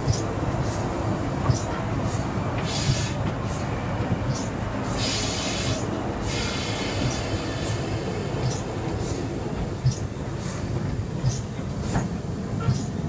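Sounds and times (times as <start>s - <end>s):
steam hissing: 0.0s - 13.0s
steam locomotive rumbling: 0.0s - 13.0s.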